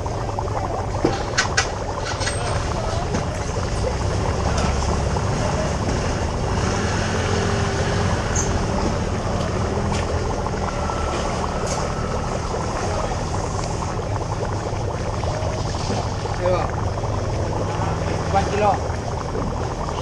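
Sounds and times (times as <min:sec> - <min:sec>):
busy market din: 0:00.5 - 0:18.9.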